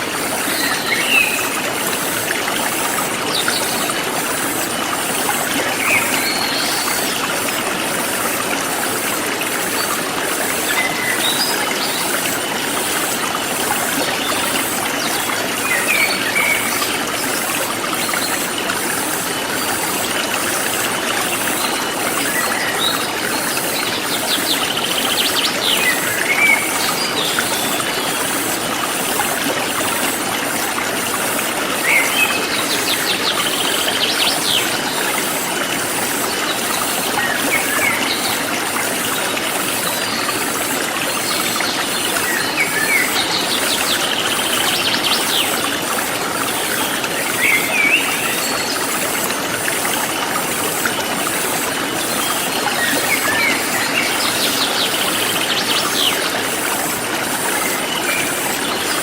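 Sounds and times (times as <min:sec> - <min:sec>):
forest stream flowing: 0:00.0 - 0:59.0.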